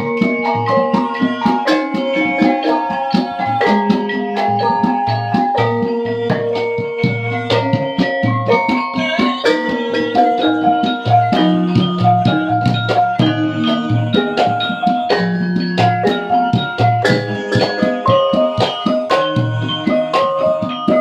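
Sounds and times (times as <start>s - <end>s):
metallophones ringing: 0.0s - 21.0s.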